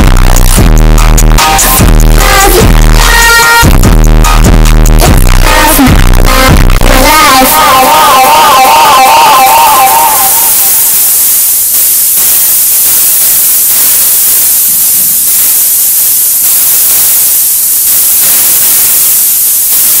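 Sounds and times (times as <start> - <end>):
distorted music: 0.0 - 20.0
loud static hiss: 0.0 - 20.0.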